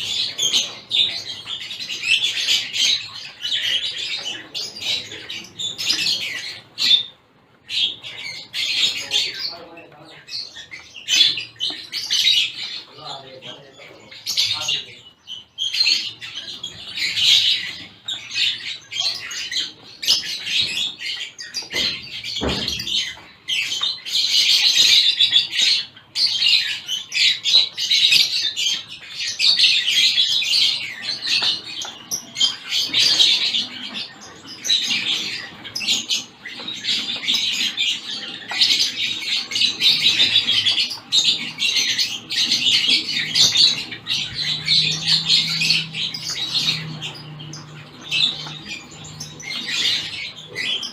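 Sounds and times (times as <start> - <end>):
finches chirping: 0.0 - 50.9.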